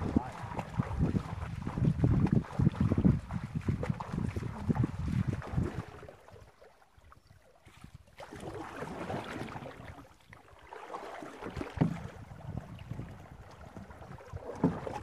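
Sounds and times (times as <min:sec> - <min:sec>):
canoe paddles splashing in water: 0:00.0 - 0:15.0.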